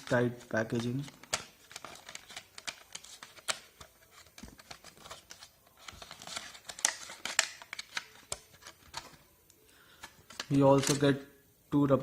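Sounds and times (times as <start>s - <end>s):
plastic packaging crinkling and snapping: 0.0s - 9.2s, 10.0s - 11.1s.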